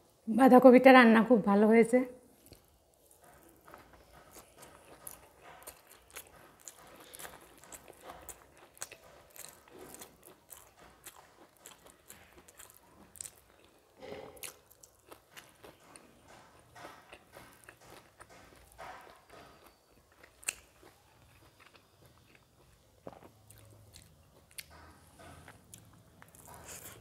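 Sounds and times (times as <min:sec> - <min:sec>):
person chewing with wet mouth sounds: 0:02.3 - 0:27.0.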